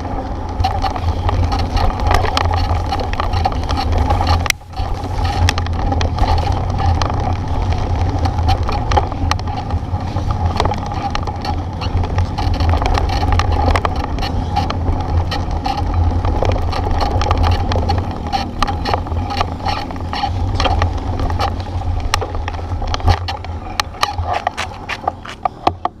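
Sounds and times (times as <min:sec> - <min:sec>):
bike rattling and knocking: 0:00.0 - 0:26.0
bike riding rumble: 0:00.0 - 0:26.0.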